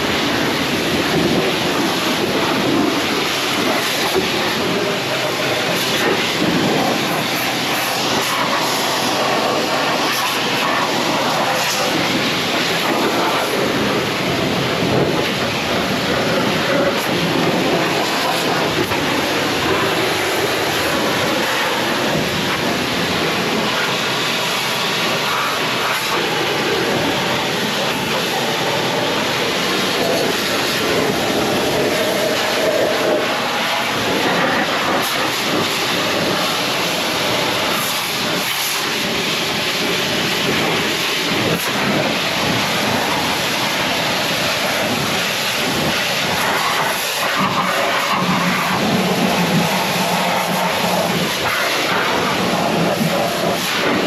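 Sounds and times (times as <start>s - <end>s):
pressure washer water jet hiss: 0.0s - 54.0s.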